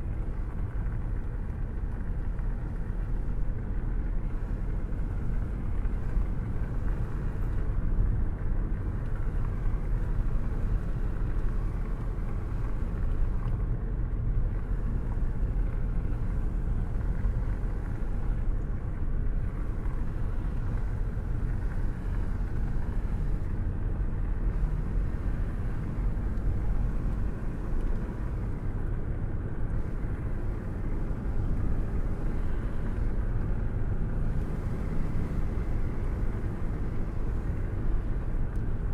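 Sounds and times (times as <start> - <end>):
constant low rumble: 0.0 - 38.9
steady rain: 0.2 - 7.7, 8.8 - 13.7, 14.3 - 38.9.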